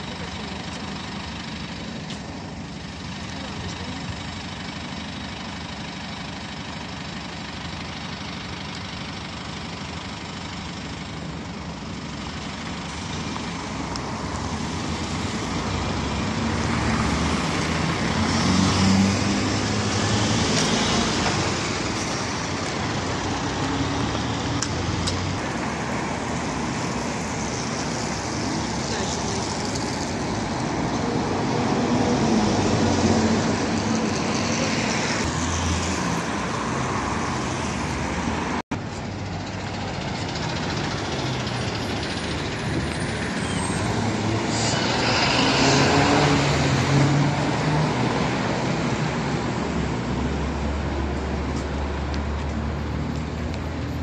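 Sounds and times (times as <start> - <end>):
bus engine idling and pulling away: 0.0 - 54.0
city bus driving past: 0.0 - 54.0.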